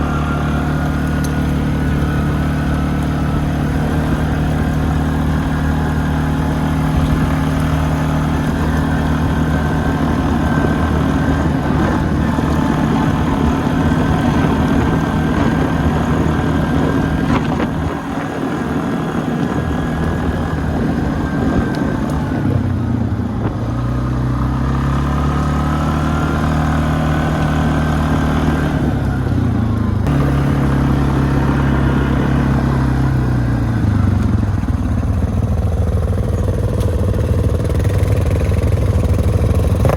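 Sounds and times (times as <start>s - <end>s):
atv engine droning: 0.0s - 39.9s.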